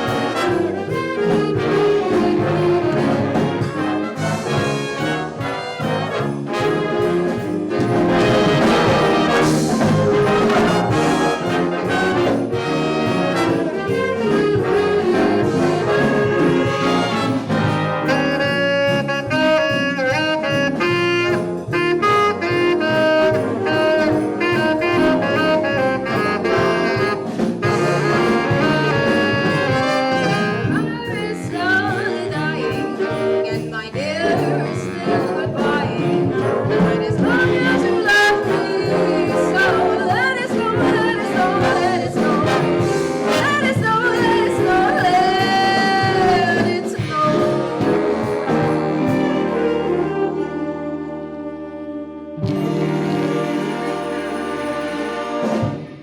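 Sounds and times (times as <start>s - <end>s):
jazz brass band playing: 0.0s - 56.0s.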